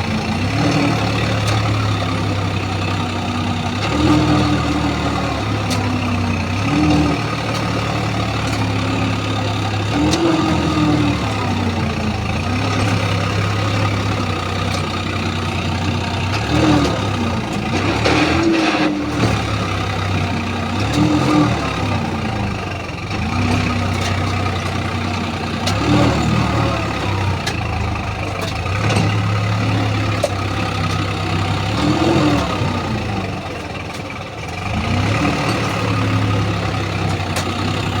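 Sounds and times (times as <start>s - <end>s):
heavy diesel engine revving: 0.0s - 38.0s.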